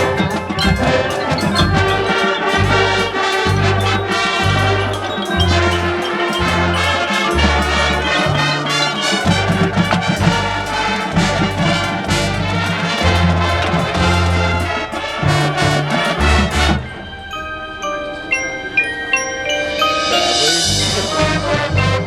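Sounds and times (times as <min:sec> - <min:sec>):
percussion hits: 0:00.0 - 0:17.4, 0:18.3 - 0:22.0
marching band playing: 0:00.0 - 0:22.0.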